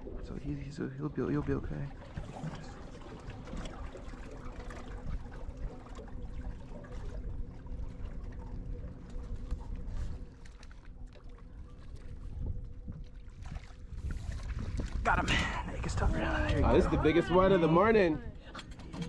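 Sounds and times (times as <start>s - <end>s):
low motor hum: 0.0s - 19.0s
water splashing along boat hull: 0.0s - 19.0s.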